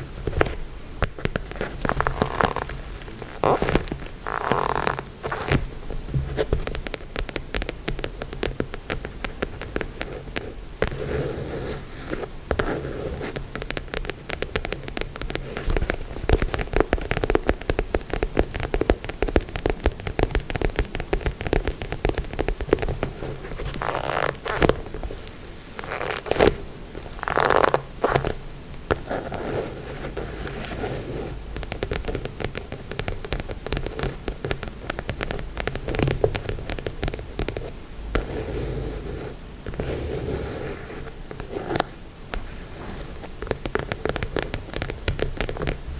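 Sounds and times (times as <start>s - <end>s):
tapping and scratching on a surface: 0.0s - 45.9s.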